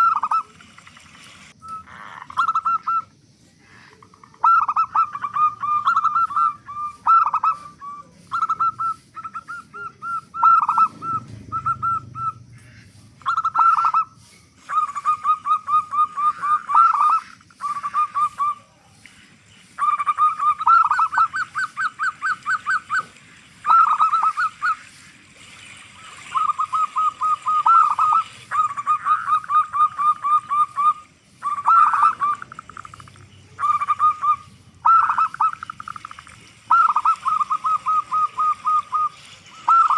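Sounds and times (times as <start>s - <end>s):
dove cooing in staccato notes: 0.0s - 0.6s, 1.6s - 39.9s.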